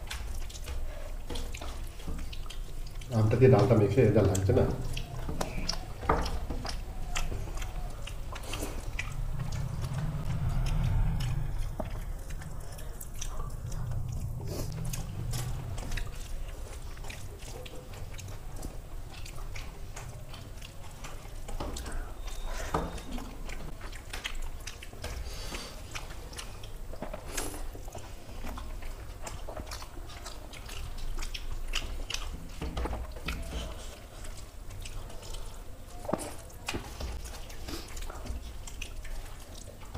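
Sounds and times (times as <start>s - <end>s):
people chewing: 0.0s - 39.9s.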